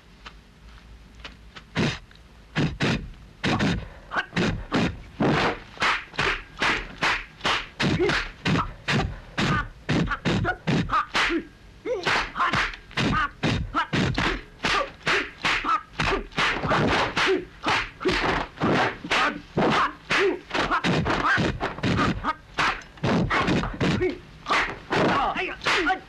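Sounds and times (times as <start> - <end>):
punch and block whacks: 4.4 - 11.4, 12.0 - 26.0.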